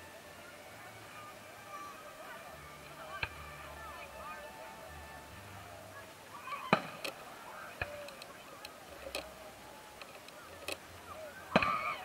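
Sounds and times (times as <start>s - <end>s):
people talking faintly: 0.0s - 12.0s.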